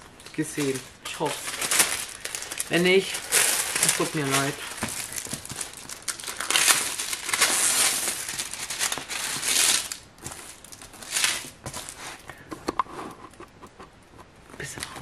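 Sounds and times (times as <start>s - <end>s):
plastic film crinkling: 0.2s - 12.4s.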